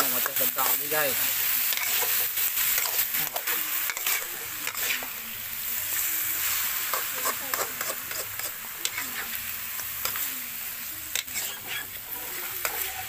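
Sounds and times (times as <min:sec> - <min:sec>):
meat sizzling in oil: 0:00.0 - 0:13.0
metal spatula scraping a pan: 0:00.1 - 0:05.2, 0:06.0 - 0:10.3, 0:11.1 - 0:13.0.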